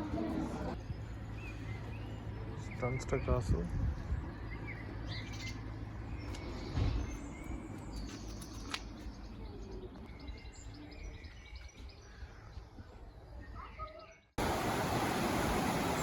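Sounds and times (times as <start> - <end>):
small birds chirping: 0.8 - 14.3.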